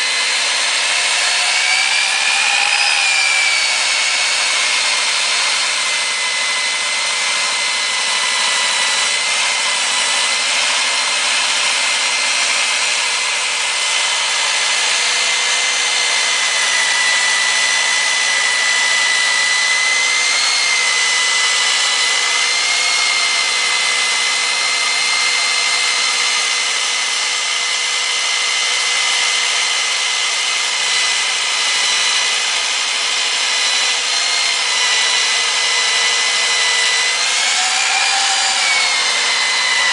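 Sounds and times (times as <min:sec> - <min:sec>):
electric core drill whining: 0:00.0 - 0:39.9.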